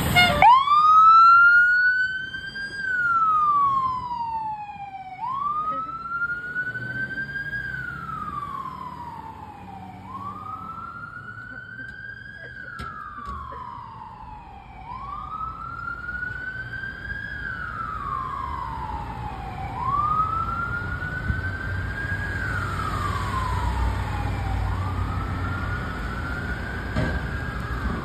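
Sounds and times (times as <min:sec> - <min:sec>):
fire engine siren wailing: 0:00.0 - 0:28.0
traffic rumble: 0:00.0 - 0:28.0.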